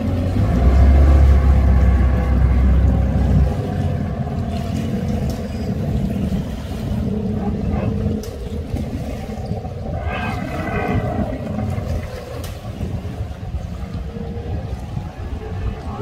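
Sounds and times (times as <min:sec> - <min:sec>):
outboard motor droning: 0:00.0 - 0:16.0.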